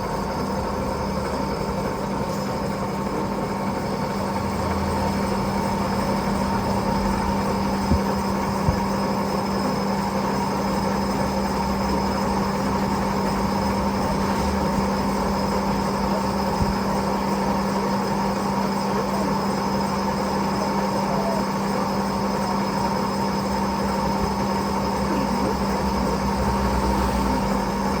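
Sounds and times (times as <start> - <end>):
lathe humming: 0.0 - 28.0.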